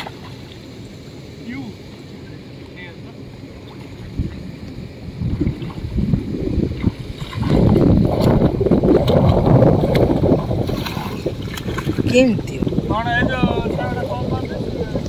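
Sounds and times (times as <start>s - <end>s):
swimmer splashing water: 0.0s - 15.0s.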